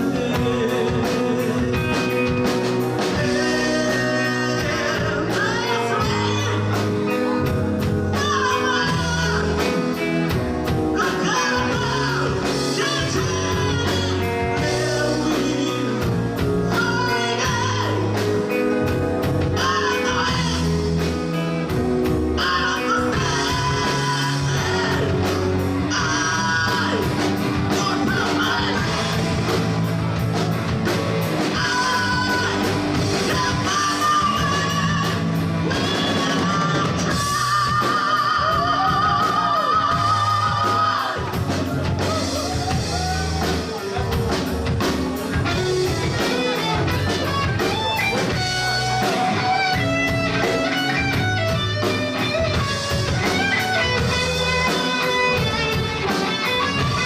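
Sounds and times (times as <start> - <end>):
person singing: 0.0 - 29.8, 31.3 - 57.0
rock band playing a ballad: 0.0 - 57.0.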